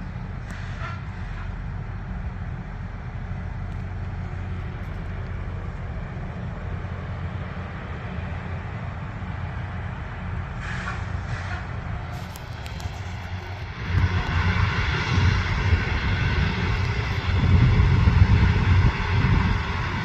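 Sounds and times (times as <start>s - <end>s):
rail grinder low drone: 0.0s - 20.0s.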